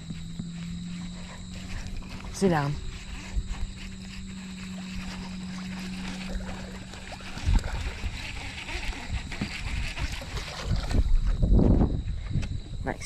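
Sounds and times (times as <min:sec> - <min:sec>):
electric trolling motor humming: 0:00.0 - 0:12.1
knocking and rustling in boat: 0:00.0 - 0:12.9.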